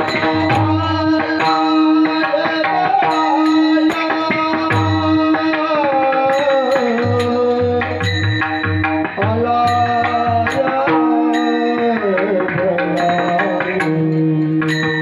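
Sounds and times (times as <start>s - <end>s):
man singing: 0.0s - 8.3s, 9.0s - 15.0s
tabla-like drum beat: 0.0s - 15.0s.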